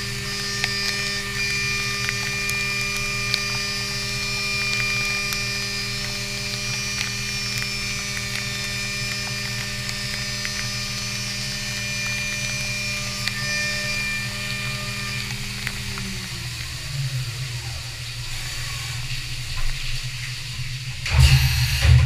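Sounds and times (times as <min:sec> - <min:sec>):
coolant spray hiss: 0:00.0 - 0:22.0
mill spindle hum and whine: 0:00.0 - 0:22.0.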